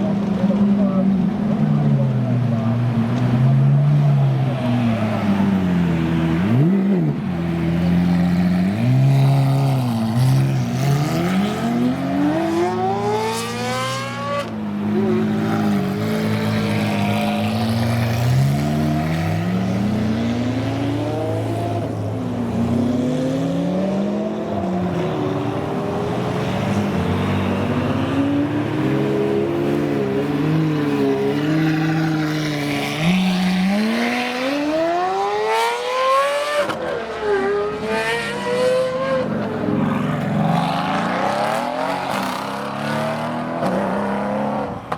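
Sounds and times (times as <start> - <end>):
supercar engines revving: 0.0 - 44.9.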